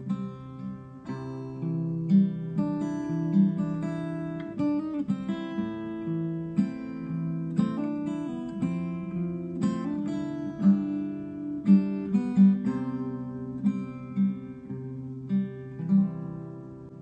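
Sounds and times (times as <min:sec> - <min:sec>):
acoustic guitar picked melody: 0:00.0 - 0:17.0.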